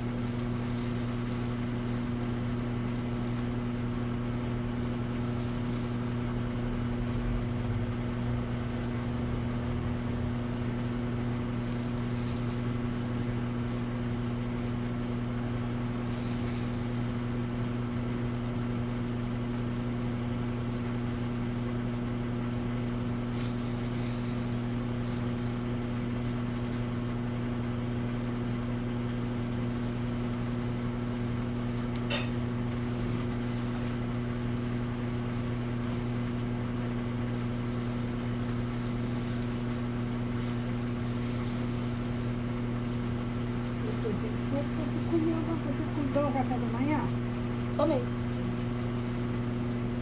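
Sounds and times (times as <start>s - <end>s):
washing machine motor humming: 0.0s - 50.0s.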